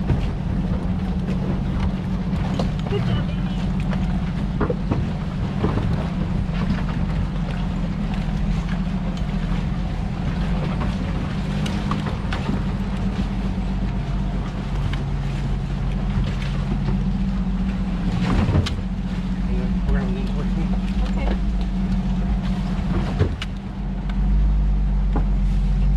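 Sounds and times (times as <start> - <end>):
engine running at low revs: 0.0 - 25.9.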